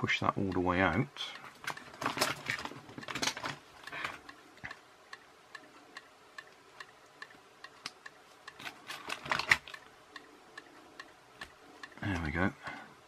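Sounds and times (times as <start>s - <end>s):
faint steady ticking: 0.0s - 13.0s.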